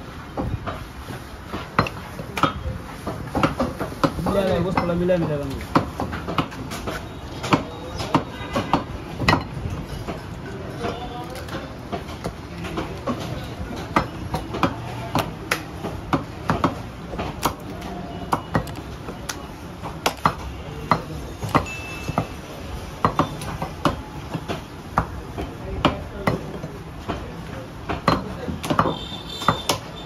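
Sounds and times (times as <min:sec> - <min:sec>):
low market hum: 0:00.0 - 0:30.0
blades knocking on wooden chopping blocks: 0:01.6 - 0:10.2, 0:10.8 - 0:22.3, 0:23.0 - 0:27.3, 0:27.9 - 0:29.9.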